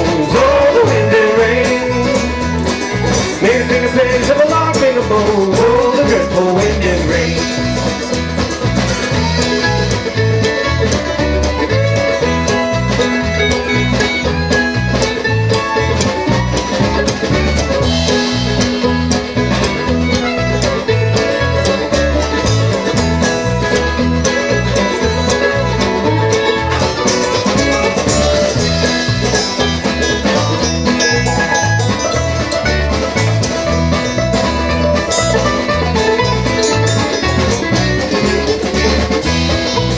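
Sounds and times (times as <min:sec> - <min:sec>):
bluegrass band playing: 0:00.0 - 0:39.9.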